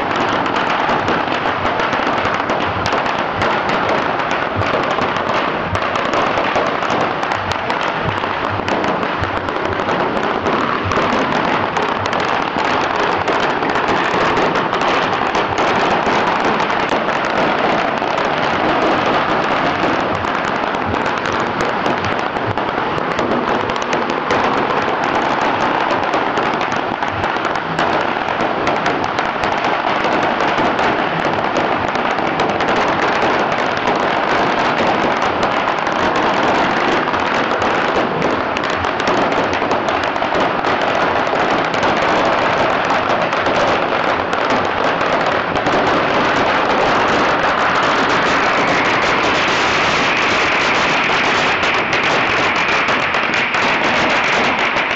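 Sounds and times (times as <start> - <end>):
firecrackers crackling rapidly: 0.0 - 54.9.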